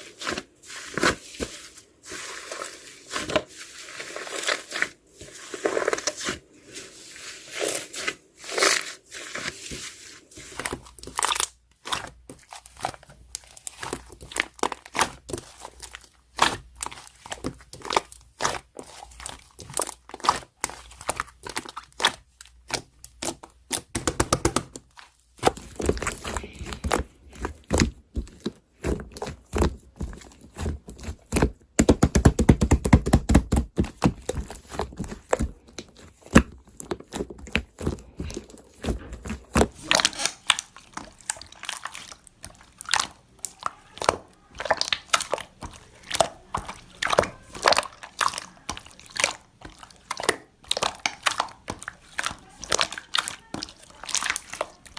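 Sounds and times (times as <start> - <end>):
slime squished crackling: 0.0 - 54.9.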